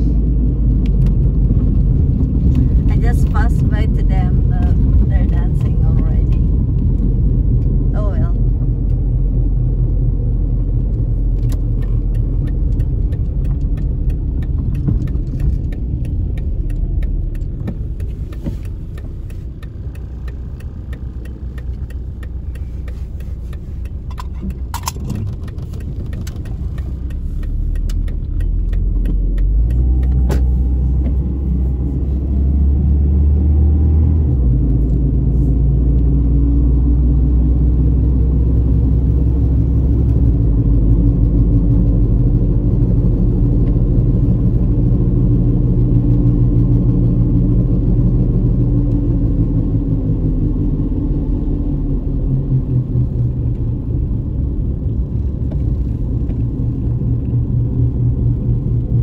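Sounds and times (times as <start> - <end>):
car engine rumble: 0.0 - 59.0
road noise inside car: 0.0 - 59.0.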